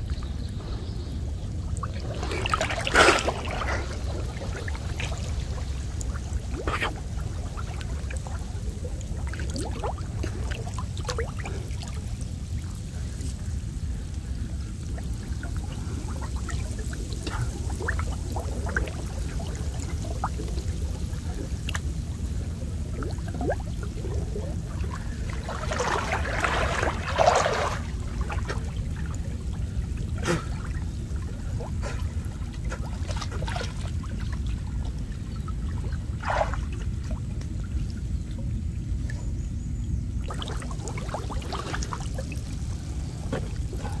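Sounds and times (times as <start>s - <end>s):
low rumble: 0.0s - 44.0s
water sloshing from wading: 1.4s - 39.4s, 40.1s - 44.0s
rush of churned water: 1.7s - 35.0s, 35.7s - 37.1s, 40.3s - 44.0s.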